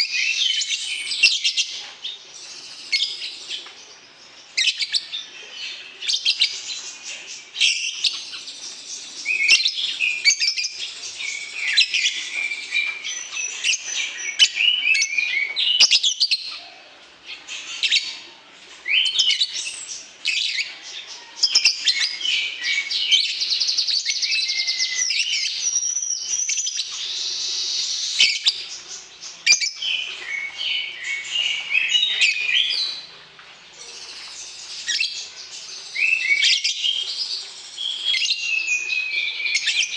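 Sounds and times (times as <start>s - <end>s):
lovebird chirps and trills: 0.0s - 16.7s, 18.9s - 33.1s, 33.8s - 39.9s.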